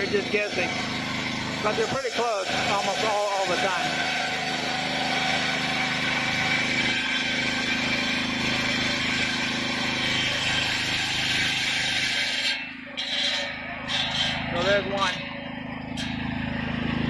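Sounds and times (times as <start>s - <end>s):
gasoline engine running: 0.0s - 11.2s, 12.7s - 17.0s
circular saw ripping lumber: 0.0s - 17.0s.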